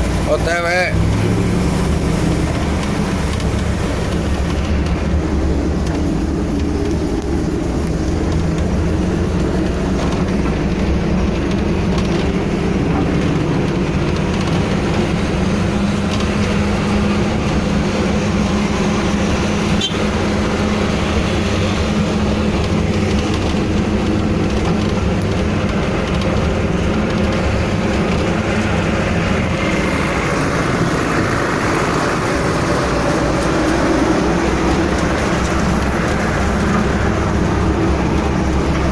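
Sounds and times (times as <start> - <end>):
vehicle engine and road hum: 0.0 - 38.9.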